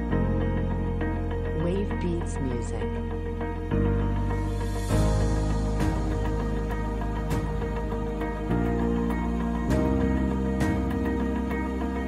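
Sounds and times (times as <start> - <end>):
music with held chords: 0.0 - 12.0.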